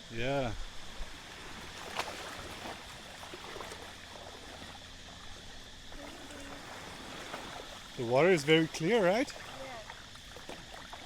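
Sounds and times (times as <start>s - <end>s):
water sloshing against a boat: 0.6s - 11.0s
small splashes: 1.0s - 11.0s.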